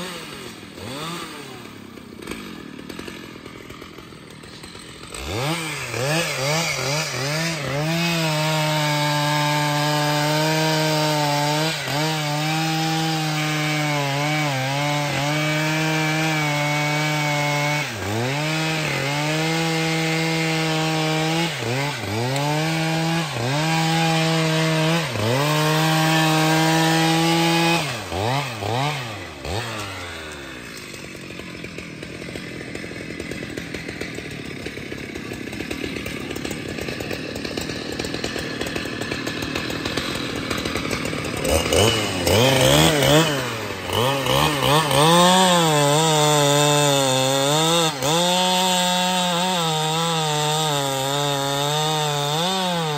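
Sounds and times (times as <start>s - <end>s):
chainsaw sawing through trunk: 0.0s - 52.9s.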